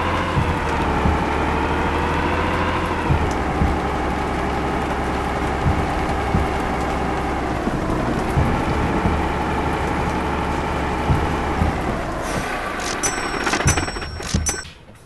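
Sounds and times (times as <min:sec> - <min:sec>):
knocks and rattles: 0:00.0 - 0:15.0
truck engine humming: 0:00.0 - 0:15.0.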